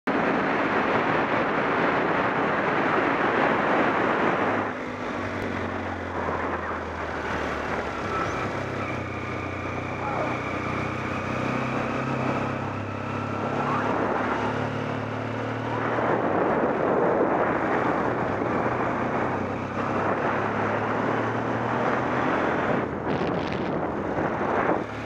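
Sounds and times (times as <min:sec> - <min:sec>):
wind noise on microphone: 0:00.1 - 0:25.0.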